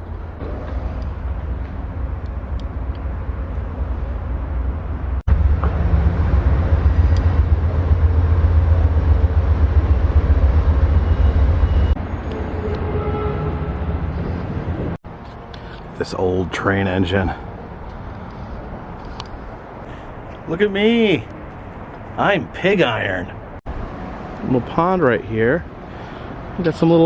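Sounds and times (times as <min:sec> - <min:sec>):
low outdoor rumble: 0:00.0 - 0:26.8.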